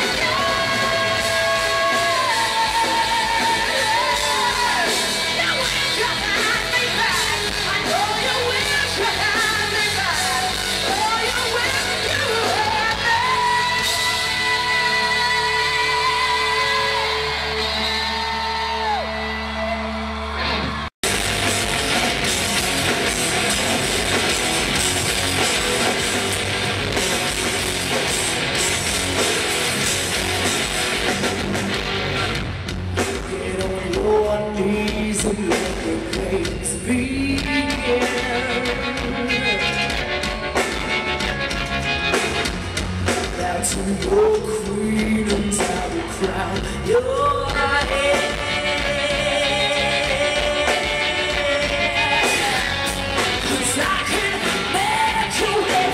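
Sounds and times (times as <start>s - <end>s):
hard rock band playing loud: 0.0s - 55.9s.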